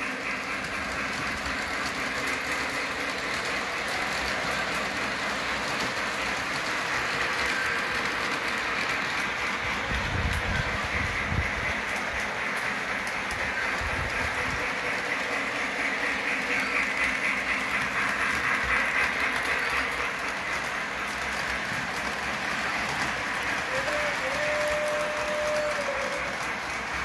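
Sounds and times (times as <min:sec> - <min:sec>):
model train whirring rumble: 0:00.0 - 0:27.0.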